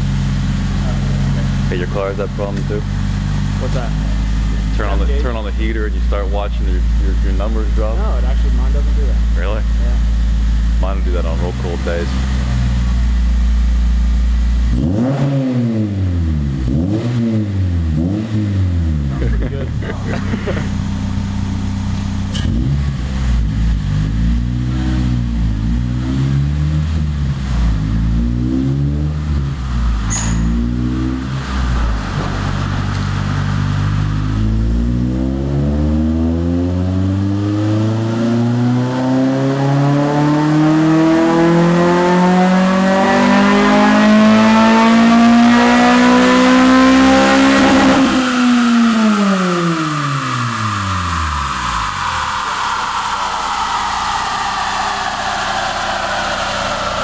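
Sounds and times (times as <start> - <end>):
car engine on dyno pull: 0.0 - 57.0.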